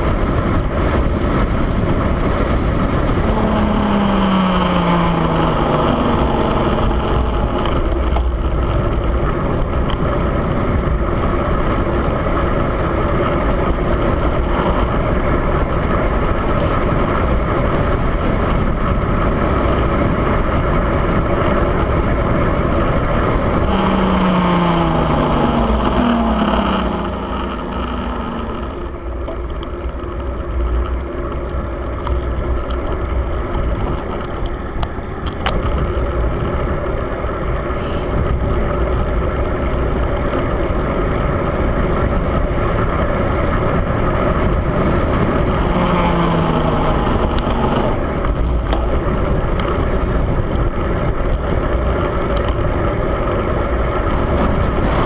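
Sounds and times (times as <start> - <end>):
vehicle engine running: 0.0 - 55.0
wind noise on microphone: 0.0 - 55.0.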